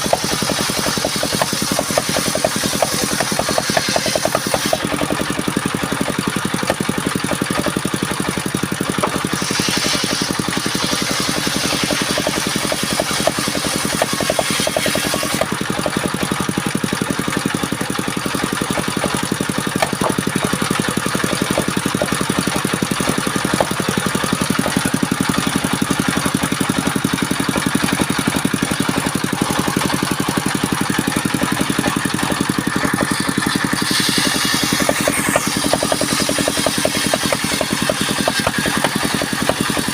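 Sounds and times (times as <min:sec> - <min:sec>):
sawing machine engine running: 0:00.0 - 0:39.9.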